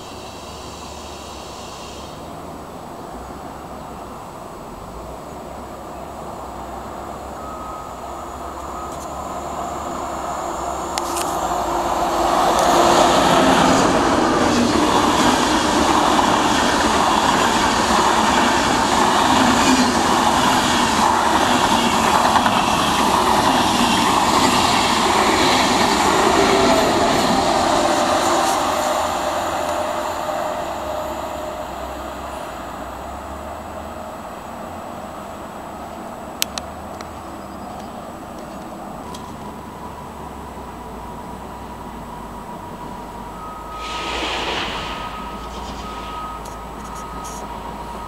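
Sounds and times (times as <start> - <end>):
train wheels on rail: 0.0 - 48.0.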